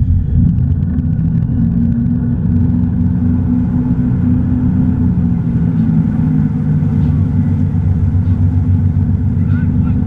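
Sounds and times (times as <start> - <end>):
boat engine rumble: 0.0 - 10.0
water churning: 0.0 - 10.0.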